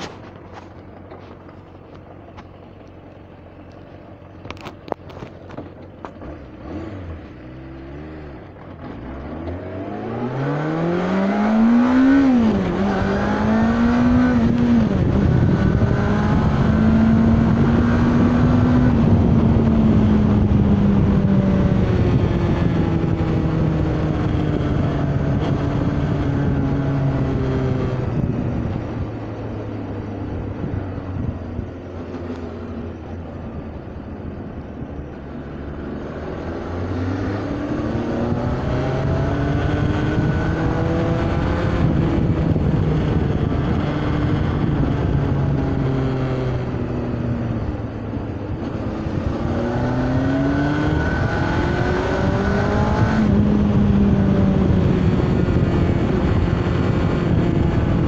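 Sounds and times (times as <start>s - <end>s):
motorcycle engine accelerating: 0.0s - 58.0s
wind rushing over microphone: 9.7s - 58.0s.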